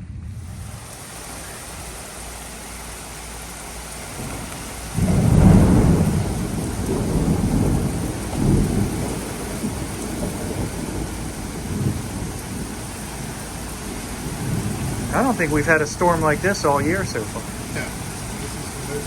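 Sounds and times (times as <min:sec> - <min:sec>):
heavy rain: 0:00.0 - 0:19.0
thunderclap rumbling: 0:00.0 - 0:19.0.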